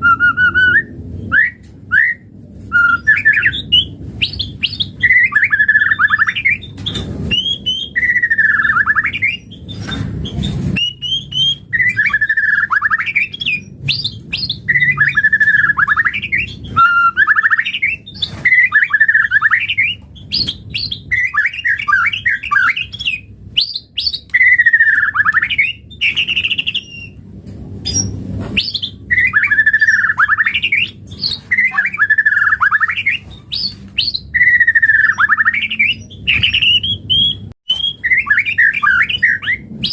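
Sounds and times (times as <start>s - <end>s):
songbird singing warbling phrases: 2.8s - 27.2s, 27.9s - 39.9s.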